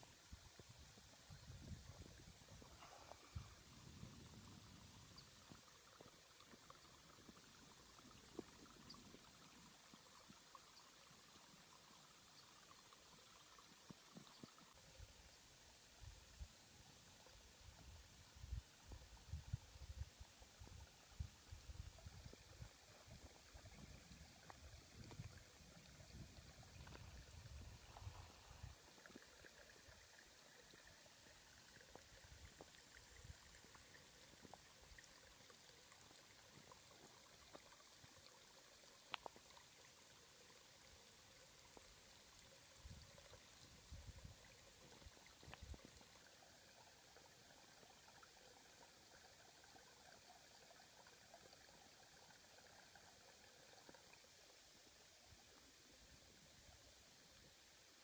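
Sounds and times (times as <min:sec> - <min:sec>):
faint outdoor hiss: 0:00.0 - 0:58.0.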